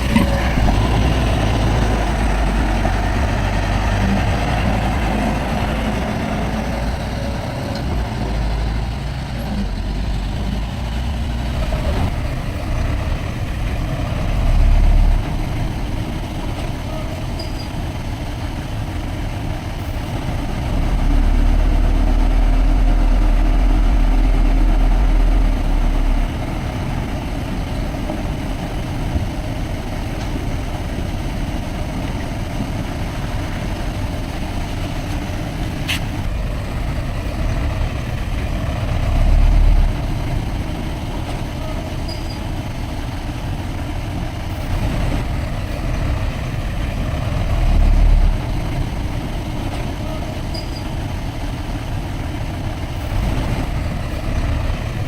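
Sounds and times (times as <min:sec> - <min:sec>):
diesel machinery engine rumbling: 0:00.0 - 0:55.0.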